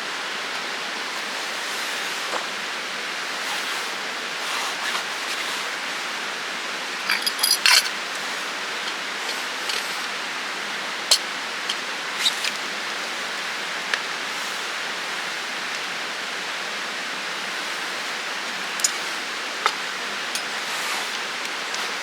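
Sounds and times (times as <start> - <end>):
campfire hissing: 0.0 - 22.0.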